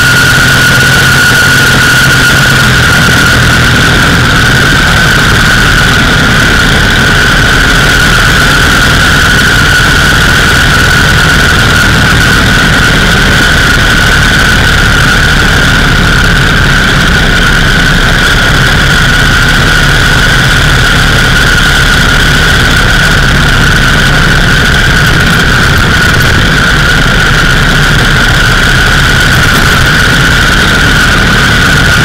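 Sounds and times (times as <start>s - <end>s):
motorcycle engine cruising: 0.0s - 32.0s
road wind rushing: 0.0s - 32.0s.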